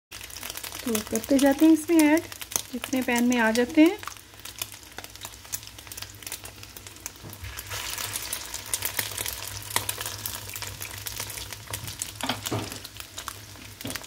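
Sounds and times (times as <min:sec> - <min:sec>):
food sizzling in oil: 0:00.1 - 0:14.0.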